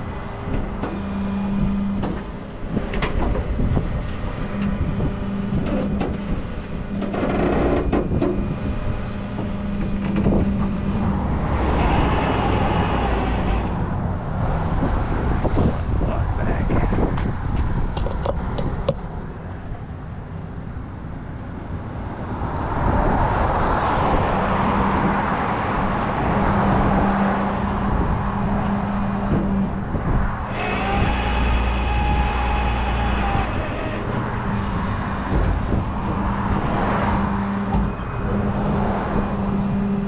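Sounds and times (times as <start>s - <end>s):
tow truck engine and winch humming: 0.0s - 16.0s, 17.4s - 40.0s
low rumble with whine: 0.0s - 40.0s
road traffic: 0.0s - 40.0s.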